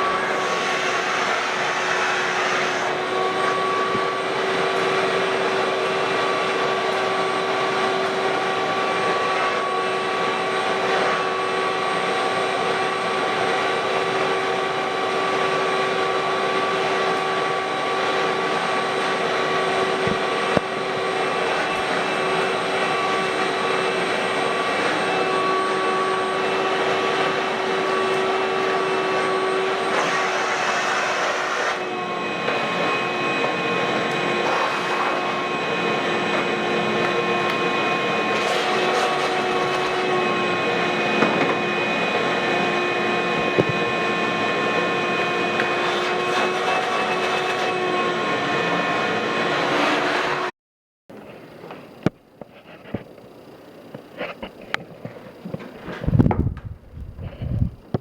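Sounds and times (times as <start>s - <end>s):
shop vacuum running: 0.0s - 58.0s.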